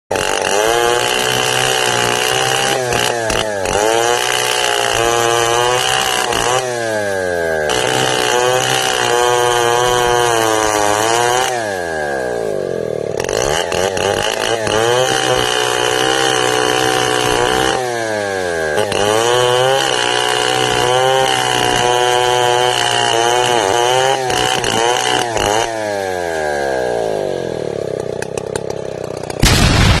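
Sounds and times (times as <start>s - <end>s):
chainsaw cutting wood: 0.1s - 30.0s.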